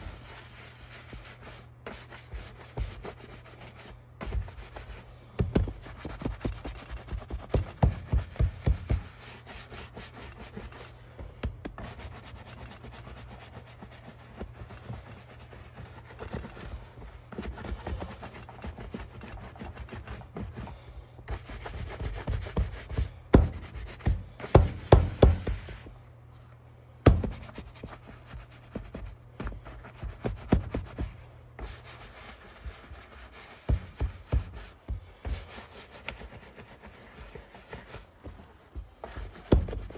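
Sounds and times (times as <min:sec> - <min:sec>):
brush scrubbing leather boot: 0:00.0 - 0:11.0, 0:11.7 - 0:25.9, 0:27.1 - 0:39.9.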